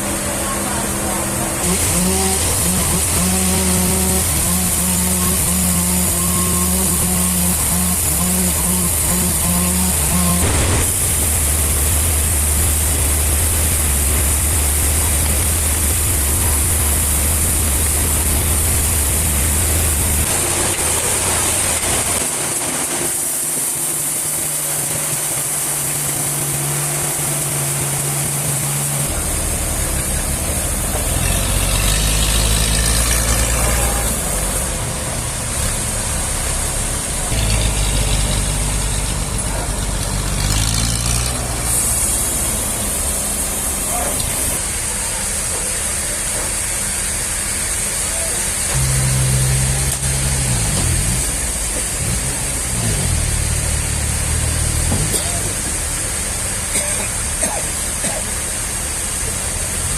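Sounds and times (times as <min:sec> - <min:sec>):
sawmill machinery engine drone: 0:00.0 - 0:59.9.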